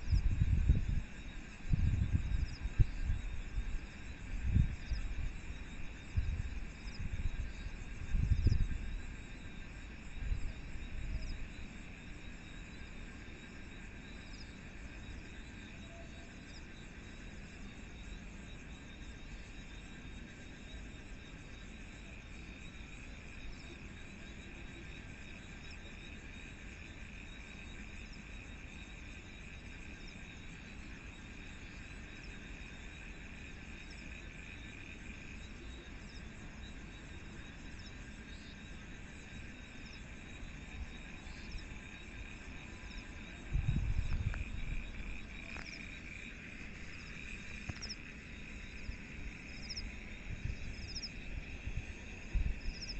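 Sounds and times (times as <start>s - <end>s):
crickets and insects trilling: 0.0s - 52.9s.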